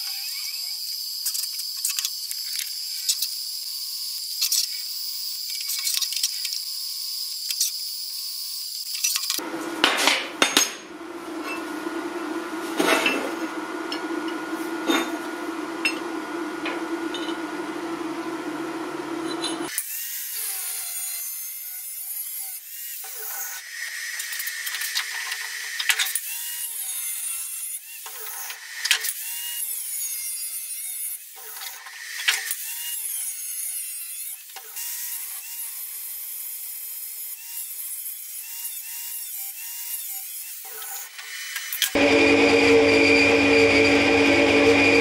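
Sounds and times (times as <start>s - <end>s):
angle grinder cutting steel: 0.0s - 11.7s, 12.7s - 45.0s.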